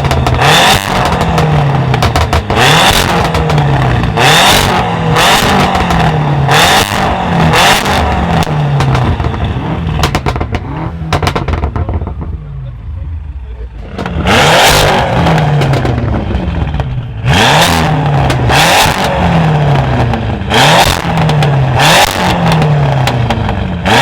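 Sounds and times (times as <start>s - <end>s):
exhaust pops and bangs: 0.0s - 12.6s, 13.8s - 24.0s
car engine revving: 0.0s - 24.0s.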